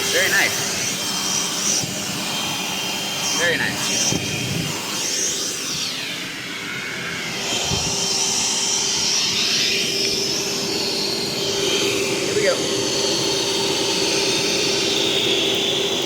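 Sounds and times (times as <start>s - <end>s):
cordless vacuum running: 0.0s - 16.0s.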